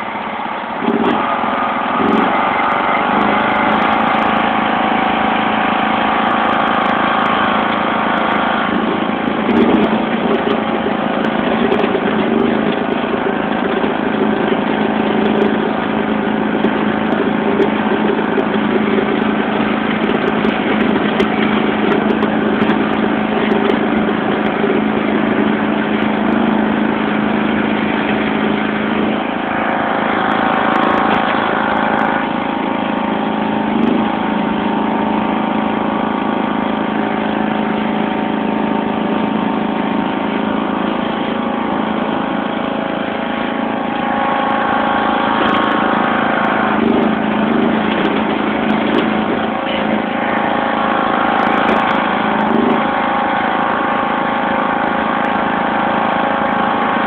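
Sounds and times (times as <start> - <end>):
lawn tractor engine running: 0.0 - 57.0
plow blade pushing snow: 0.0 - 57.0.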